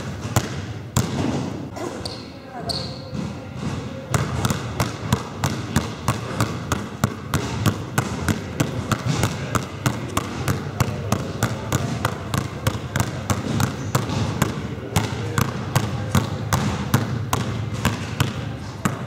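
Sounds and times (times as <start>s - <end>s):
basketballs bouncing on wooden floor: 0.0s - 19.0s.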